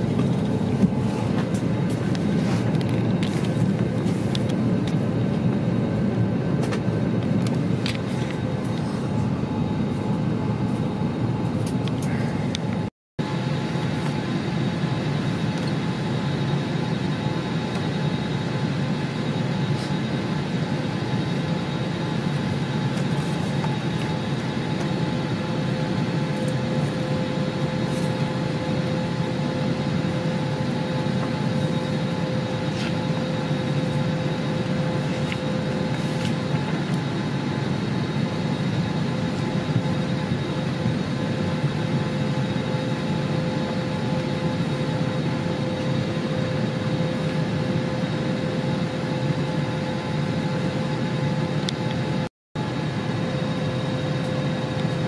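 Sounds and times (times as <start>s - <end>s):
airliner cabin hum: 0.0s - 55.0s
faint steady whine tones: 0.0s - 55.0s.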